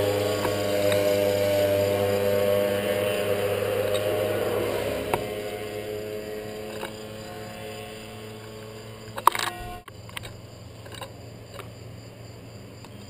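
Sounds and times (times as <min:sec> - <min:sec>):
motor humming: 0:00.0 - 0:11.7.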